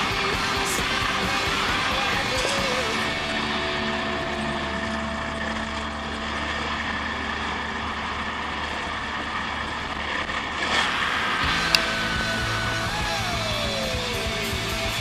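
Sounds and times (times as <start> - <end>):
trail bike engine running: 0.0 - 15.0.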